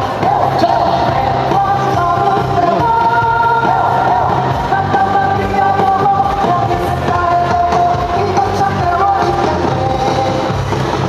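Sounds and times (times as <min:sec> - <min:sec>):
loud song with singing: 0:00.0 - 0:11.0.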